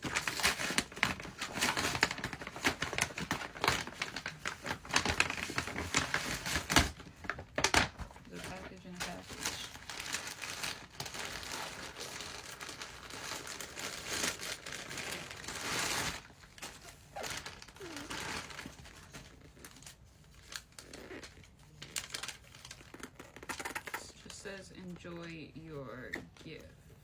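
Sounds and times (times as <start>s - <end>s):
wrapping crinkling and tearing: 0.0s - 25.3s.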